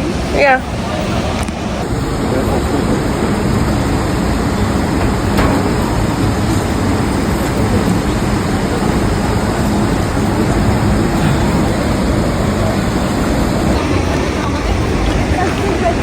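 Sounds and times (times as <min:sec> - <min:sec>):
waterfall rushing water: 0:03.1 - 0:16.0.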